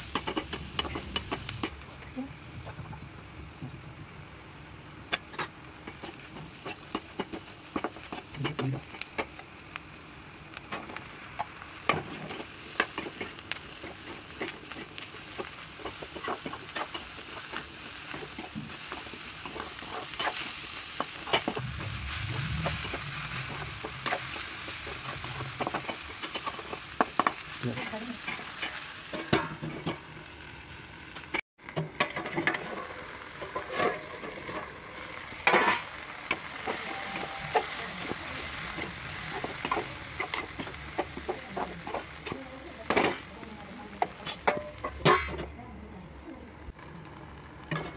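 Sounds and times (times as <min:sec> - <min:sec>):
vegetables sizzling in hot oil: 0:00.0 - 0:47.9.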